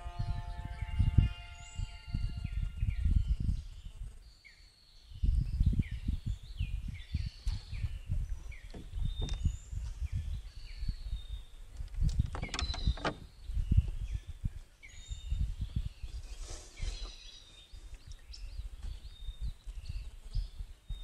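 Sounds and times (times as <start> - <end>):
birds chirping: 0.0 - 21.0
wind buffeting microphone: 0.0 - 21.0.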